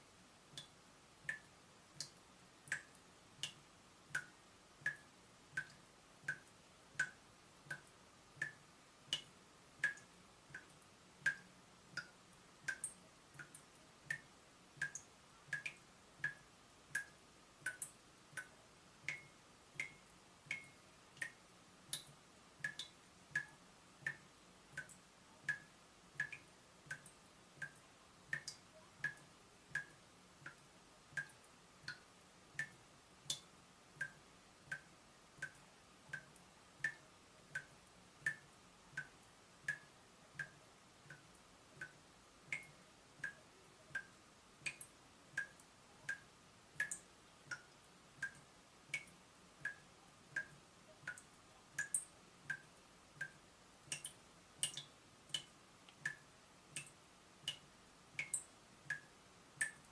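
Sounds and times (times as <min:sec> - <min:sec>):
water dripping from tap: 0:00.5 - 0:59.9.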